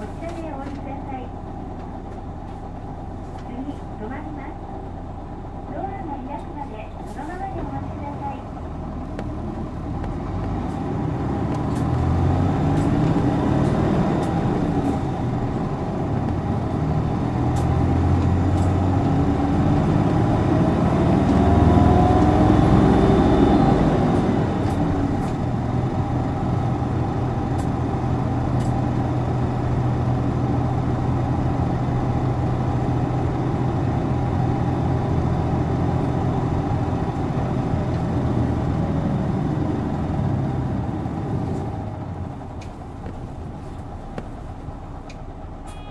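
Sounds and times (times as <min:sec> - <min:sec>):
bus diesel engine revving: 0:00.0 - 0:45.9.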